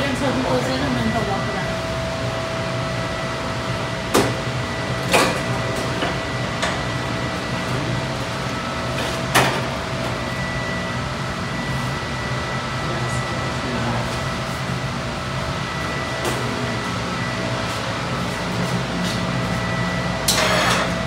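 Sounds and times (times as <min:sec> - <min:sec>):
machinery rush and hum: 0:00.0 - 0:21.0.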